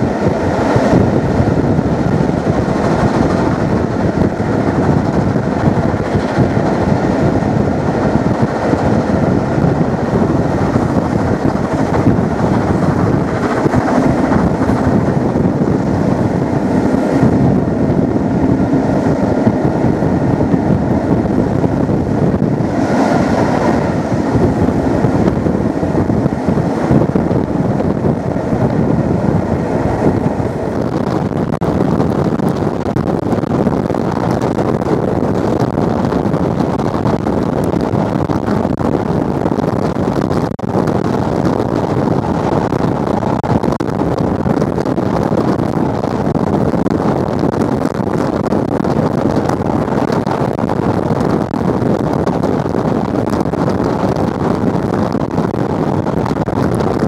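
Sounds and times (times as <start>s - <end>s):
train rumbling: 0.0s - 57.0s
wind rushing at window: 0.0s - 57.0s.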